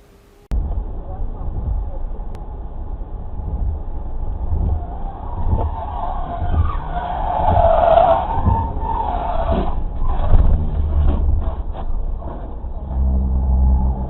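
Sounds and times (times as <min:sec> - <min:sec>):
low road rumble: 0:00.0 - 0:14.0
car tyres squealing: 0:01.4 - 0:14.0.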